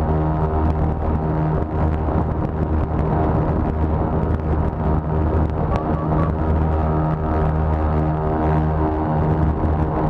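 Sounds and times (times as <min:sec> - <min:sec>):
aircraft engines droning: 0:00.0 - 0:10.0.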